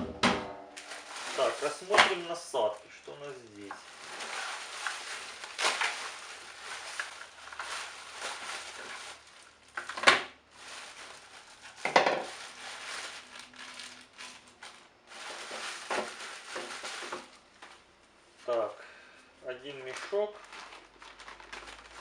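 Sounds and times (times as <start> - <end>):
packaging rustling: 0.7 - 2.7, 3.6 - 18.6, 19.7 - 22.0.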